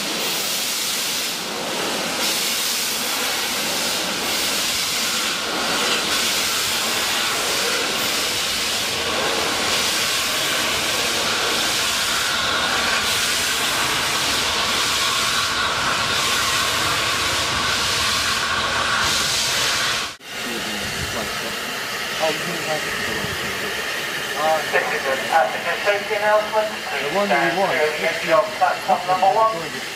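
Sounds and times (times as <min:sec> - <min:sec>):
steam hissing: 0:00.0 - 0:29.9
steam train passing: 0:00.0 - 0:29.9.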